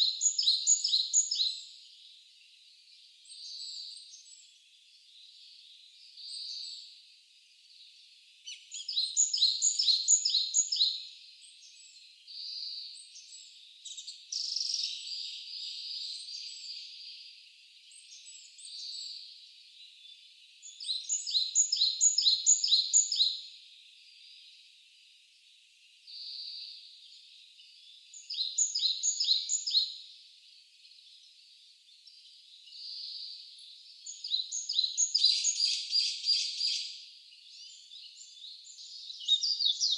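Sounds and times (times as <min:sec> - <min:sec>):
songbird singing bright notes: 0:00.0 - 0:39.9.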